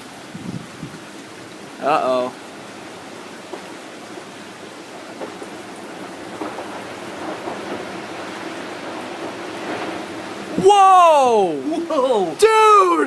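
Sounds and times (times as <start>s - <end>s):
strong wind through trees: 0.0s - 13.0s.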